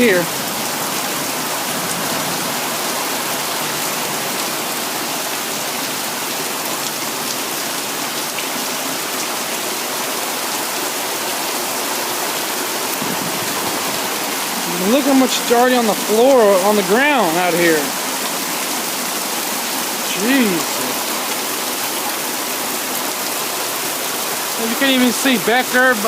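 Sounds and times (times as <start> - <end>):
heavy rain drumming on ground: 0.0 - 26.0.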